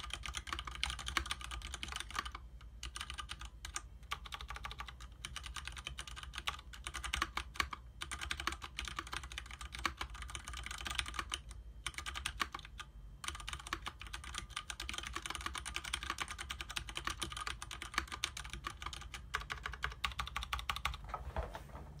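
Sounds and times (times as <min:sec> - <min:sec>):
mechanical keyboard typing: 0:00.0 - 0:21.0.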